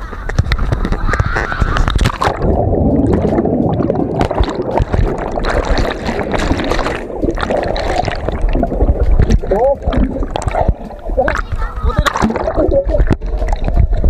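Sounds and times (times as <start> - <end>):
muffled underwater bubbling: 0.0 - 14.0.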